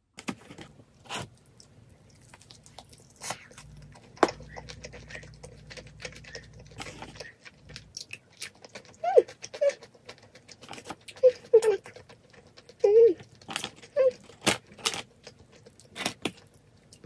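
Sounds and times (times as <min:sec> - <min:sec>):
crunchy chewing of fried chicken: 0:00.2 - 0:17.0.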